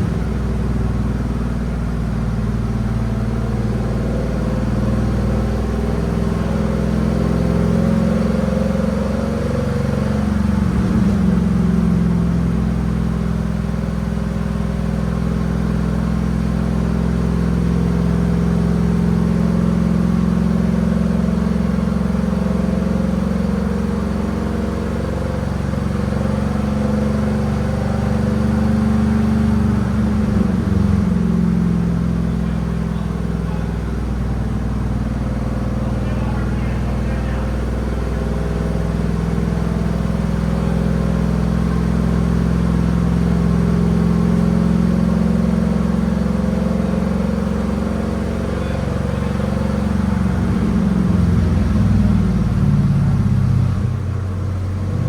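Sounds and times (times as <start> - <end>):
pickup truck engine exhaust: 0.0 - 55.0.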